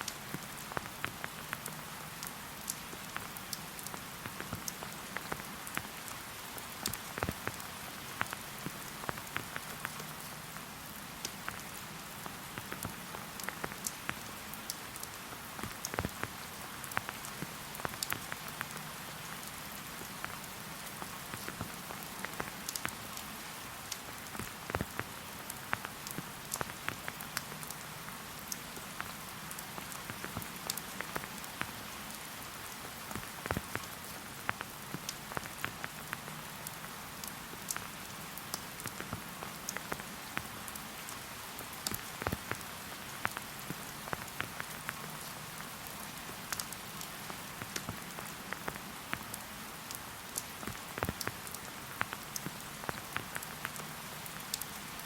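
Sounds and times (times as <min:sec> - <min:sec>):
rain falling in a forest: 0:00.0 - 0:55.0
raindrops ticking: 0:00.0 - 0:55.0.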